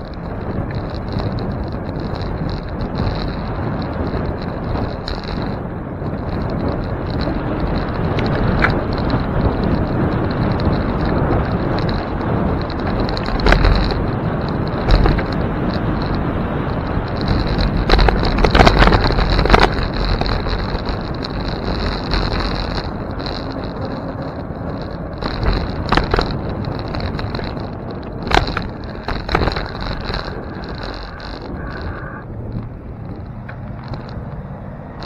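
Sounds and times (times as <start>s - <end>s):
bicycle tyre rumble on road: 0.0s - 35.0s
bike knocking and rattling: 0.0s - 35.0s
wind rushing over microphone: 0.0s - 35.0s.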